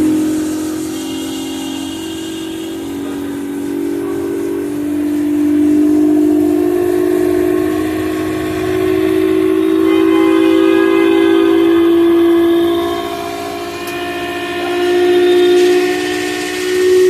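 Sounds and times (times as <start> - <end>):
air conditioner whistling hum: 0.0 - 17.0.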